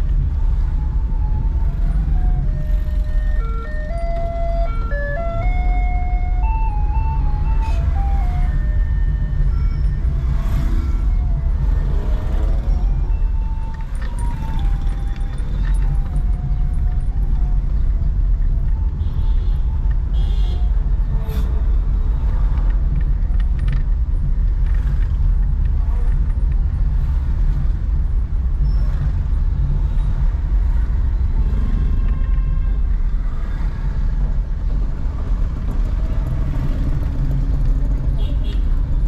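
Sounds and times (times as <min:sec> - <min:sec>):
car engine rumble: 0:00.0 - 0:39.0
road noise: 0:00.0 - 0:39.0.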